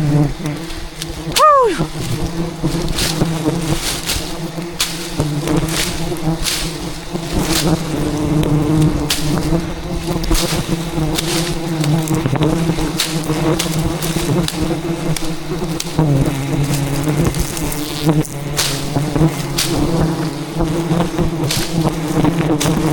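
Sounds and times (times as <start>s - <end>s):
bees buzzing: 0.0s - 22.9s
bees tapping camera: 0.0s - 22.9s.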